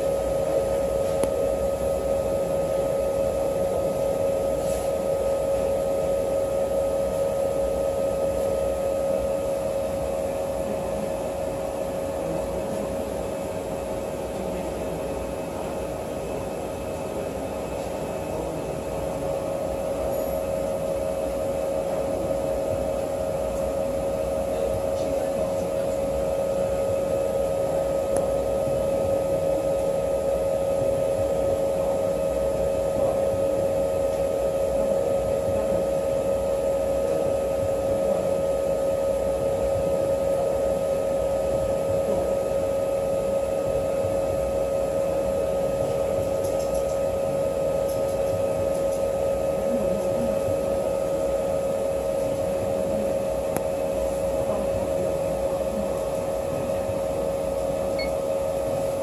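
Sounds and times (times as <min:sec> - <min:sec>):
machine hum with whine: 0:00.0 - 0:59.0.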